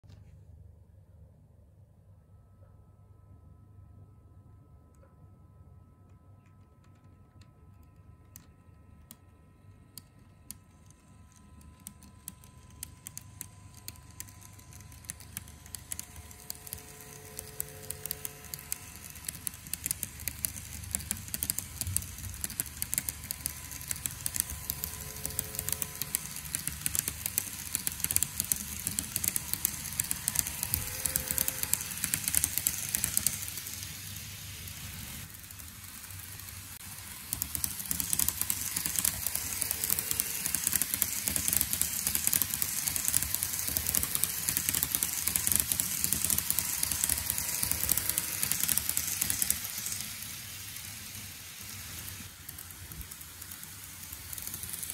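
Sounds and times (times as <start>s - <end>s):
model train wheels clicking: 6.4s - 54.9s.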